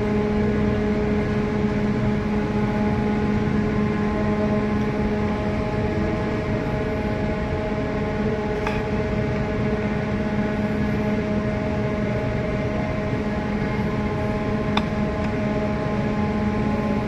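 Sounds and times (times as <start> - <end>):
ship machinery hum: 0.0 - 17.0.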